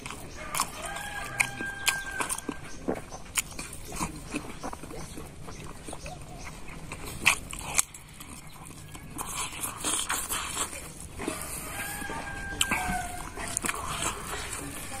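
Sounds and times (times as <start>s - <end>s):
man chewing and lip-smacking: 0.0s - 15.0s.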